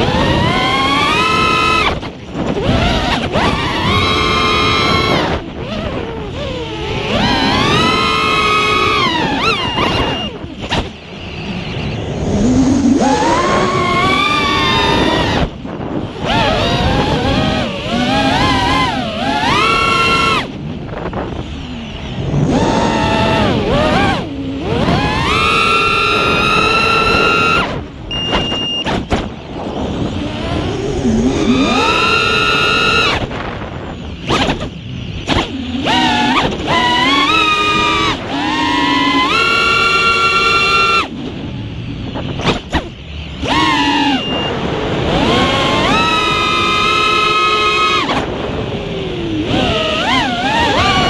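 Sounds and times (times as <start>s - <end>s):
quadcopter motors whining: 0.0s - 51.0s
wind on microphone: 0.0s - 51.0s.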